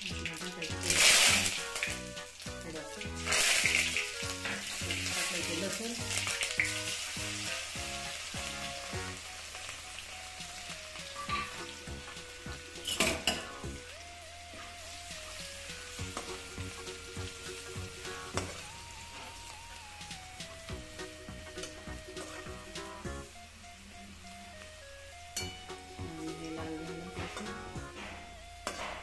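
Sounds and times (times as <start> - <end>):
hot oil sizzling and spitting: 0.0 - 23.3
soft background music: 0.0 - 29.0.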